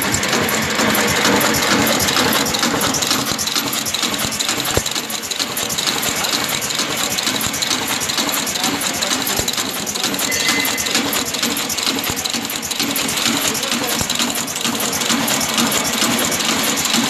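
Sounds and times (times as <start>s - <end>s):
packing machine clattering: 0.0s - 17.0s.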